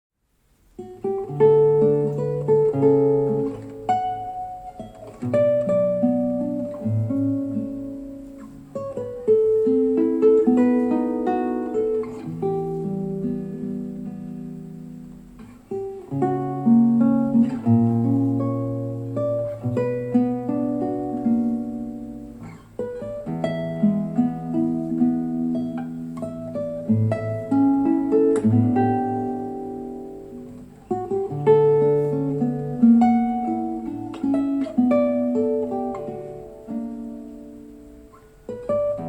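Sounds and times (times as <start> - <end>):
acoustic guitar playing on loudspeaker: 0.9 - 39.0.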